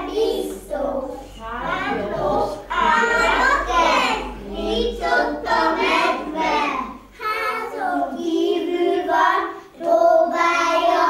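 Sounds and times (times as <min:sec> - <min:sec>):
girls singing: 0:00.0 - 0:11.0.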